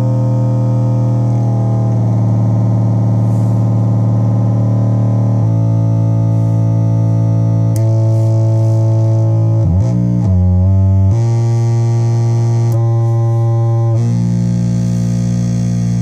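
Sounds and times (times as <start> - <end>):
buzzy synth drone: 0.0 - 16.0.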